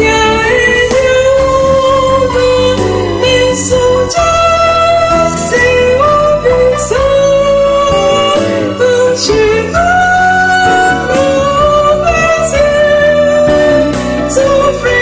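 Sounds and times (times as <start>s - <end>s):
instrumental backing music: 0.0s - 15.0s
woman singing gospel song: 0.0s - 15.0s.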